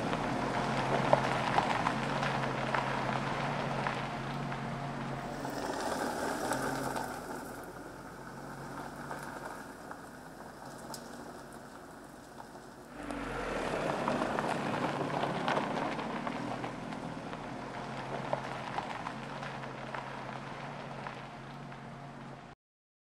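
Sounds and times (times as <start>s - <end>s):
tyres rolling over track: 0.0s - 22.3s
car engine running: 0.0s - 22.5s.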